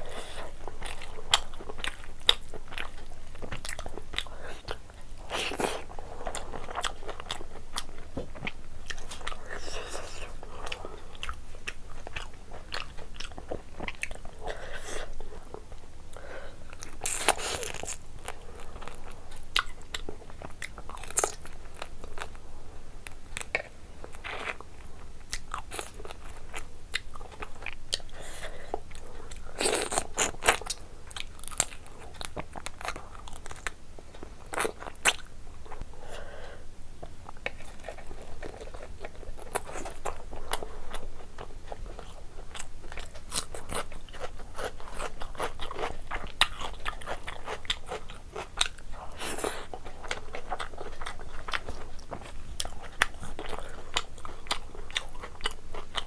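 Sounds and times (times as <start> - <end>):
wet chewing and crunching: 0.0 - 15.8, 16.7 - 22.4, 23.0 - 35.8, 37.0 - 56.0.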